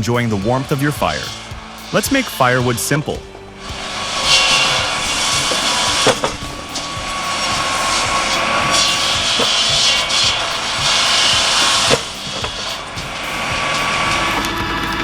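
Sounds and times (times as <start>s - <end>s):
circular saw cutting logs: 0.0s - 15.0s.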